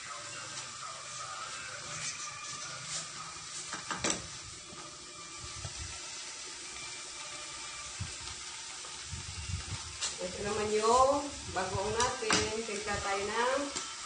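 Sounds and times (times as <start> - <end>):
stew simmering with steady hiss: 0.0 - 14.0.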